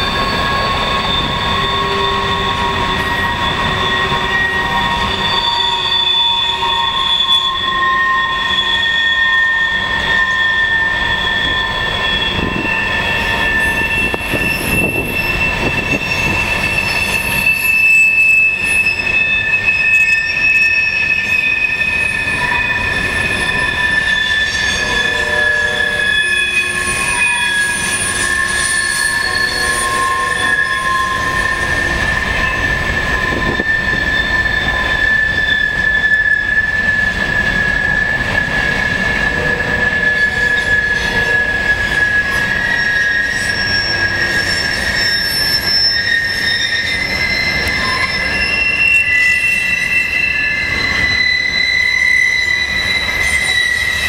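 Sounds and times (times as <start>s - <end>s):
rumble of wheels on rail: 0.0s - 54.0s
train wheels squealing: 0.0s - 54.0s.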